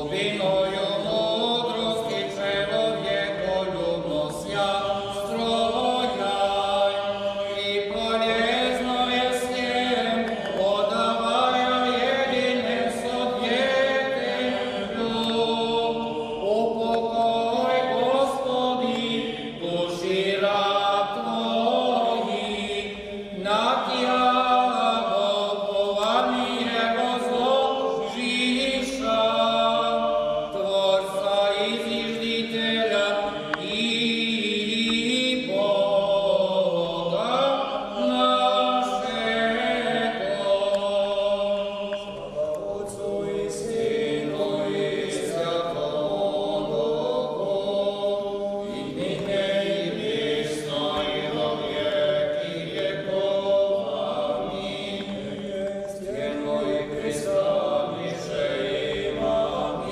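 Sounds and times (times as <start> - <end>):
several voices chanting: 0.0 - 59.9.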